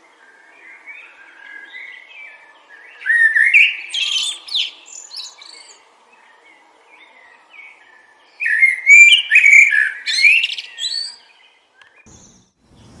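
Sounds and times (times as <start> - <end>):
faint wind hiss: 0.0 - 13.0
songbird singing: 0.0 - 13.0.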